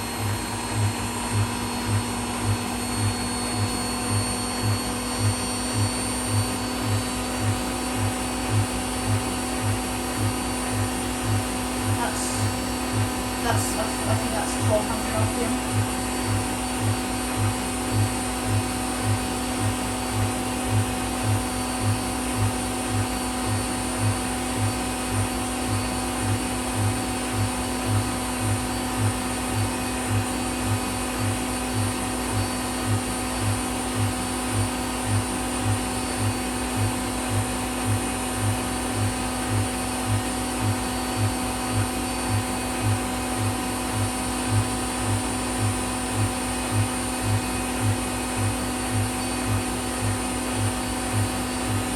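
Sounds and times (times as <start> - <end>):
washing machine spinning: 0.0 - 51.9.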